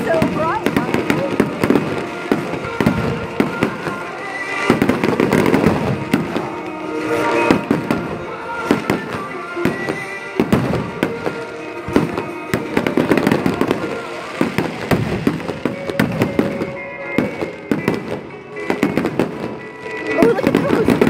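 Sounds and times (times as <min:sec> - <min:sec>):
fireworks bursts and crackling: 0:00.0 - 0:21.0.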